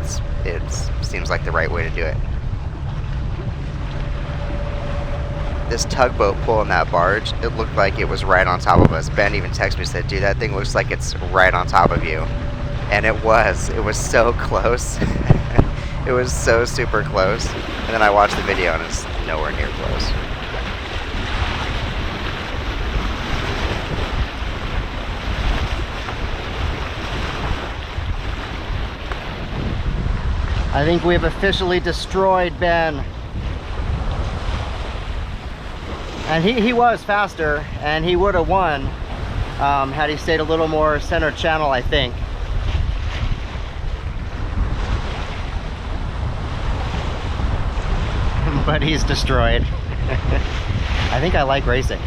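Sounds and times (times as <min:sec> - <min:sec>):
water rushing along hull: 0:00.0 - 0:52.0
wind buffeting microphone: 0:00.0 - 0:52.0.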